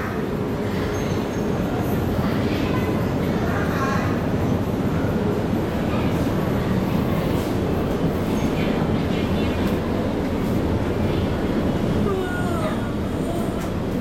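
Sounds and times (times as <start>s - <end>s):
ship engines rumbling: 0.2s - 14.0s.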